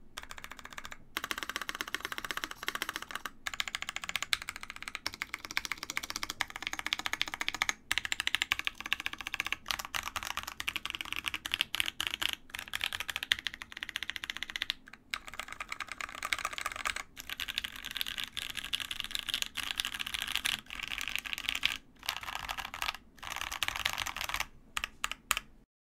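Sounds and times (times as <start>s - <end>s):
mechanical keyboard typing: 0.2s - 25.5s.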